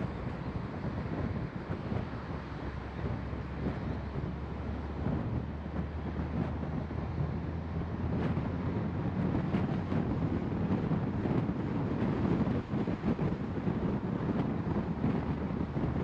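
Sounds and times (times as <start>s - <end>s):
engine and tyre rumble: 0.0s - 16.0s.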